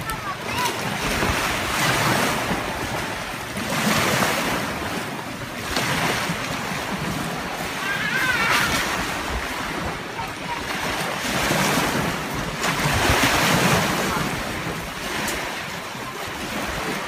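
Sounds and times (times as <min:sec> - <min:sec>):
waves washing against rocks: 0:00.0 - 0:17.0.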